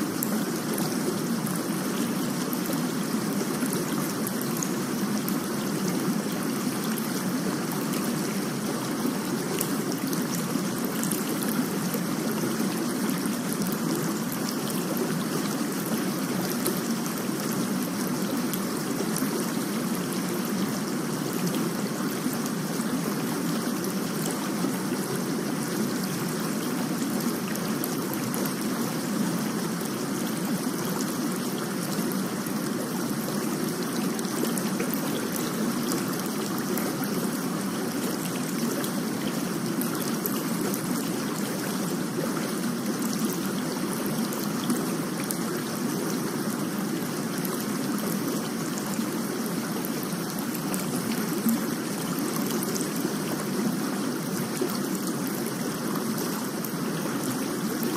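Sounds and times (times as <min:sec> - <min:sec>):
steady rain hiss: 0:00.0 - 0:57.9.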